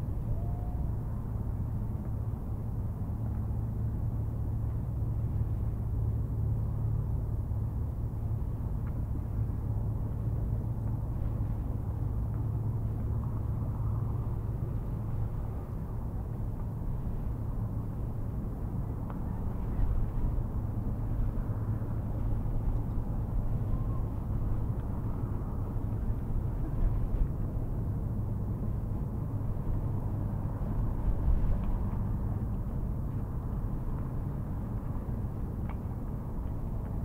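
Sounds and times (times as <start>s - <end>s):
constant low hum: 0.0s - 37.0s
steady low rumble: 0.0s - 37.0s.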